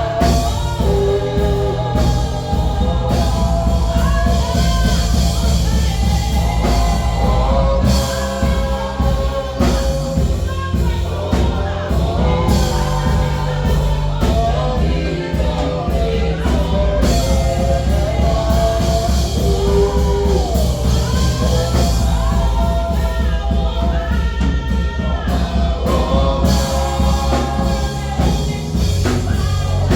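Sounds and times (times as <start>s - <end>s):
bass: 0.0s - 29.9s
choir singing: 0.0s - 29.9s
drum kit: 0.0s - 29.9s.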